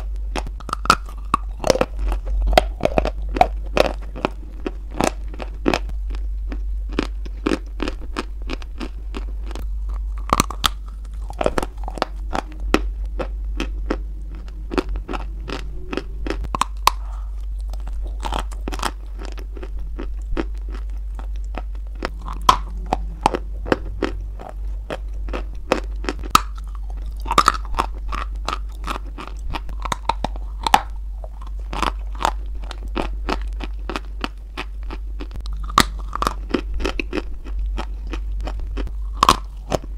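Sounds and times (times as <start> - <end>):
chalky lump being chewed: 0.0 - 39.9
low hum: 0.0 - 39.9.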